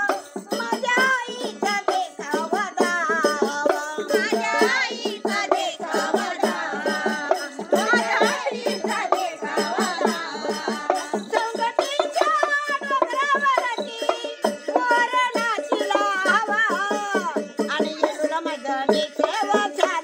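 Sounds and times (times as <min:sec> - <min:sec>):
hand percussion beat: 0:00.0 - 0:20.0
women singing folk song: 0:00.0 - 0:20.0.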